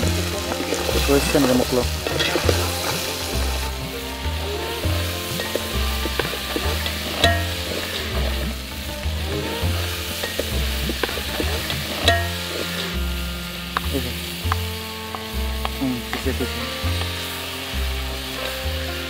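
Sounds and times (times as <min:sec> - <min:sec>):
food sizzling in pot: 0:00.0 - 0:19.0.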